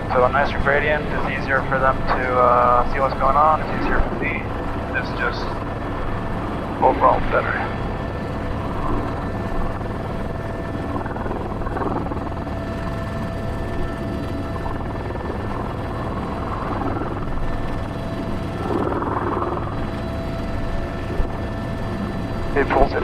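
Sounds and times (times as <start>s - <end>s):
helicopter engine whine: 0.0s - 23.0s
helicopter rotor thrum: 0.0s - 23.0s.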